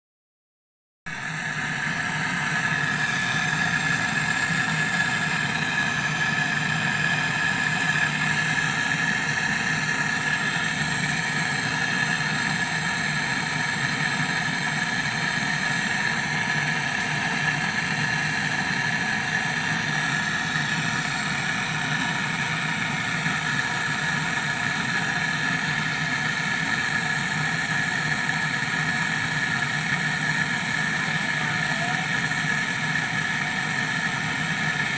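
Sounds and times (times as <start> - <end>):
window air conditioner hum: 1.2 - 30.2.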